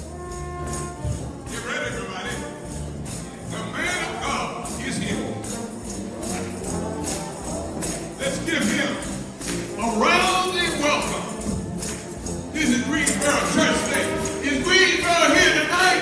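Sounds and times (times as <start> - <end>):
gospel band playing: 0.0 - 16.0
tambourine jingles: 0.0 - 16.0.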